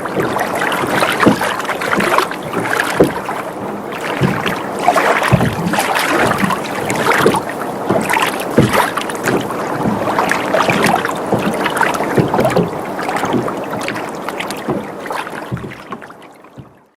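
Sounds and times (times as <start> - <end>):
small water slaps and splashes: 0.0 - 16.9
water lapping against boat hull: 0.0 - 16.9.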